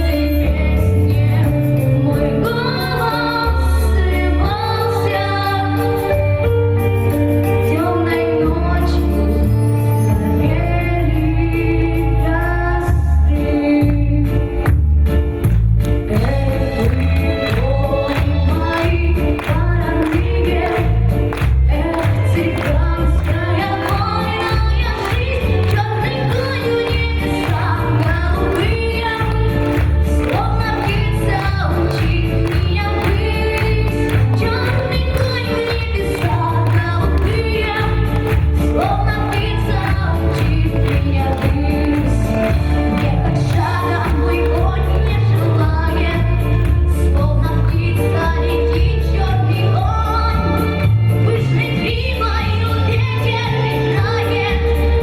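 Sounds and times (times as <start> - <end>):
steady bass line: 0.0 - 55.0.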